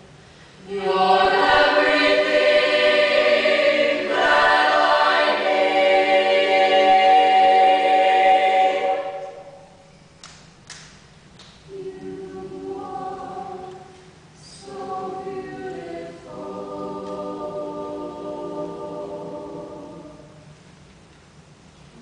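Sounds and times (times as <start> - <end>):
a cappella ensemble singing: 0.4 - 10.0, 11.7 - 20.7.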